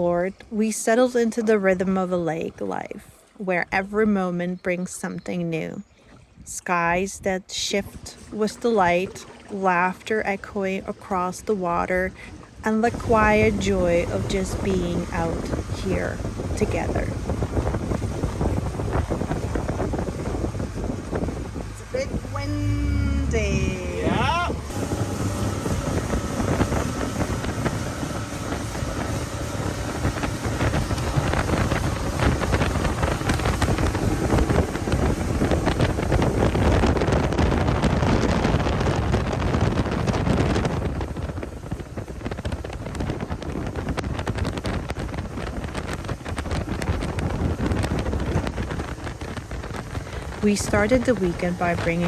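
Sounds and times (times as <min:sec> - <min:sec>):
motorboat running: 0:00.0 - 0:52.0
wind buffeting microphone: 0:00.0 - 0:52.0.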